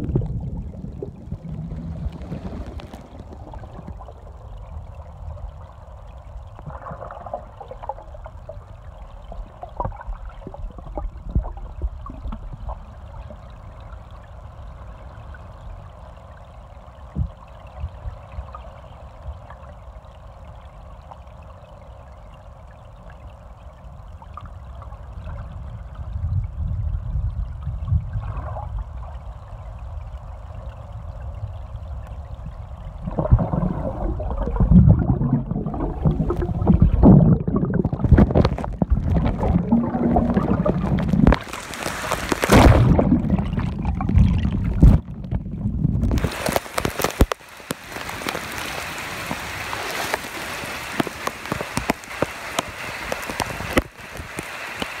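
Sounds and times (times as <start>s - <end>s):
muffled underwater rumble and sloshing: 0.0s - 55.0s
rain falling on water: 0.0s - 55.0s.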